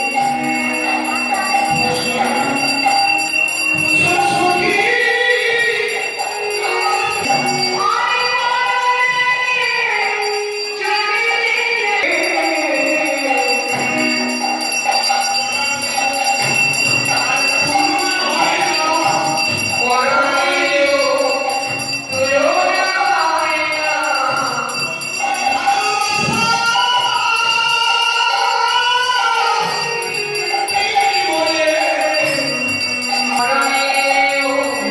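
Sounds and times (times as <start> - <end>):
jingling ringing accompaniment: 0.0 - 34.9
voices singing: 0.0 - 34.9.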